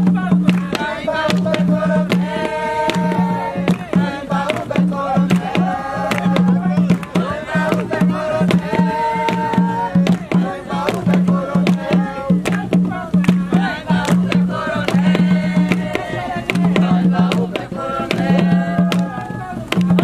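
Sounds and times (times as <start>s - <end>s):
hand drums beating: 0.0s - 20.0s
voices singing: 0.0s - 20.0s.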